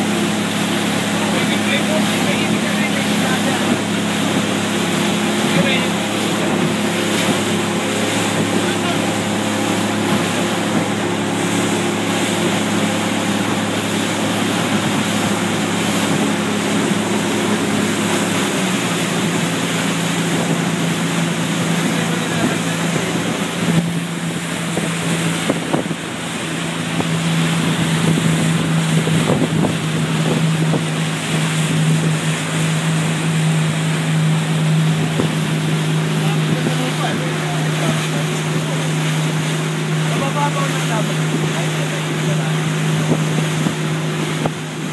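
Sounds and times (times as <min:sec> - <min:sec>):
boat engine humming: 0:00.0 - 0:44.9
wake rushing: 0:00.0 - 0:44.9
wind buffeting microphone: 0:00.0 - 0:44.9.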